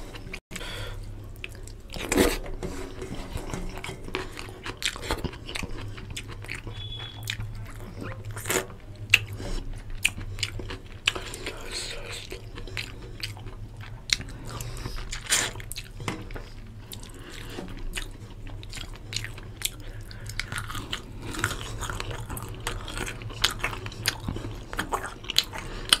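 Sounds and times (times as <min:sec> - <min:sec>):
chewing and wet mouth sounds: 0:00.0 - 0:26.0
steady low hum: 0:00.0 - 0:26.0.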